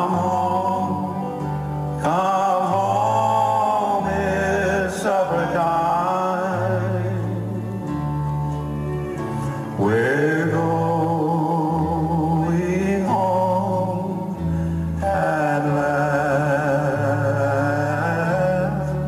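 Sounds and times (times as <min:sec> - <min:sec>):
acoustic guitar: 0:00.0 - 0:19.0
low bass line: 0:00.0 - 0:19.0
two men singing: 0:00.0 - 0:19.0.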